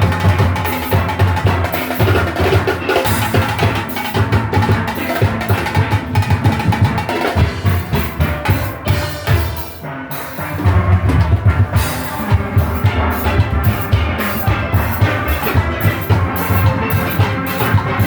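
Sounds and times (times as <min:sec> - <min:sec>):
drum kit rhythm: 0:00.0 - 0:18.0
steel pans: 0:00.0 - 0:18.0.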